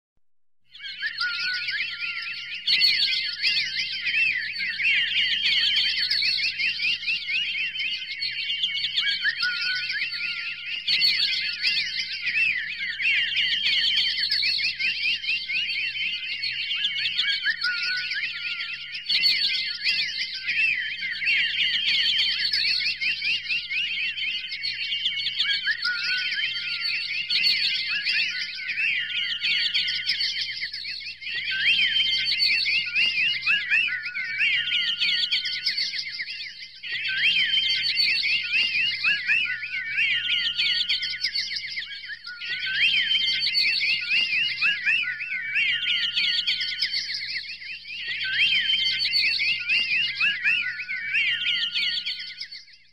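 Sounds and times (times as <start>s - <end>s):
songbirds chirping and whistling: 0.6s - 52.9s.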